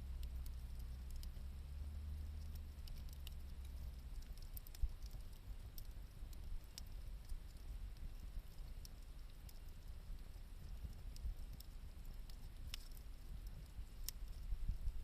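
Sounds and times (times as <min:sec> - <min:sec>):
campfire crackling pops: 0:00.0 - 0:15.0
low fire rumble: 0:00.0 - 0:15.0.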